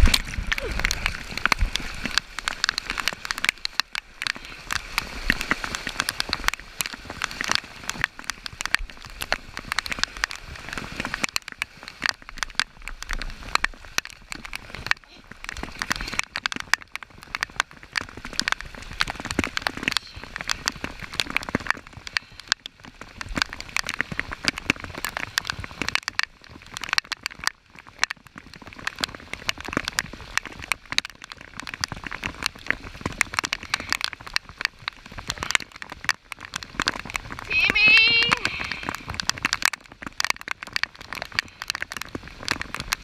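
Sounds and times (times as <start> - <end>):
rain falling on a river: 0.0 - 43.0.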